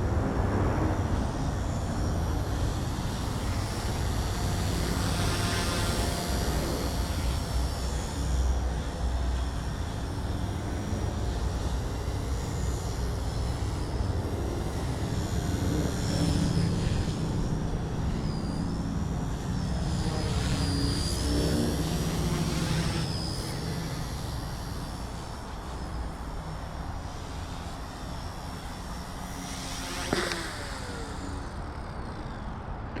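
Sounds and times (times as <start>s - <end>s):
constant low rumble: 0.0s - 33.0s
micro helicopter rotor whine: 0.0s - 33.0s.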